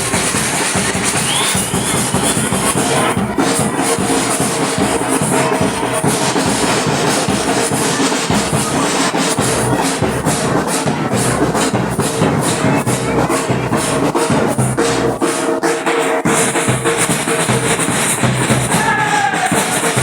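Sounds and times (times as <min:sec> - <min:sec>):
samba drum ensemble: 0:00.0 - 0:20.0.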